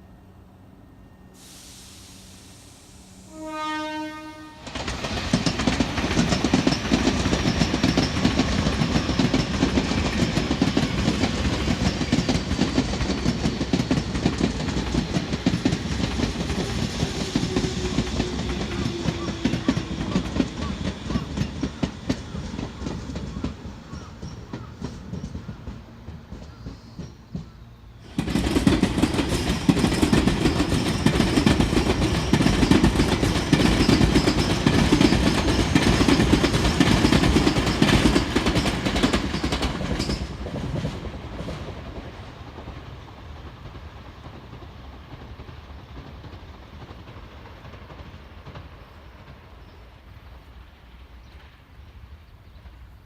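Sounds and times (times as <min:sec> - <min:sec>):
electric train passing: 0:00.0 - 0:53.0
wheels clacking over rail joints: 0:04.6 - 0:49.7.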